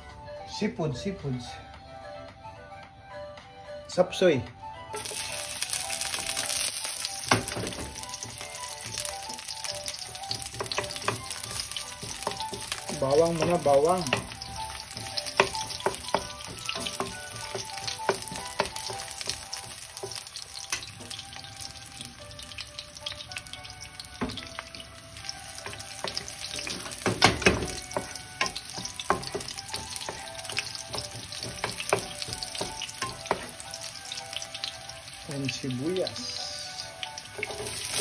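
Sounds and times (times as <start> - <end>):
garlic sizzling in oil: 4.9 - 38.0.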